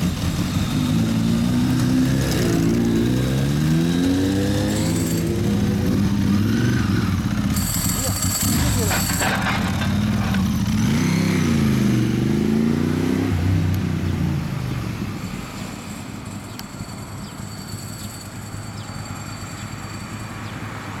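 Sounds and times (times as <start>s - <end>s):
motorcycle engine accelerating: 0.0s - 17.5s.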